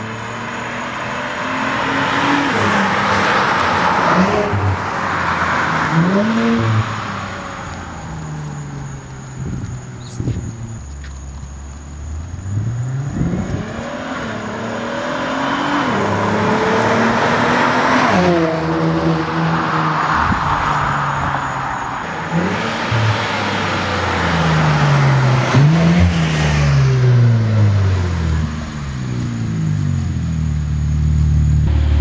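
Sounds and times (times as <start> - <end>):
car accelerating hard: 0.0 - 32.0.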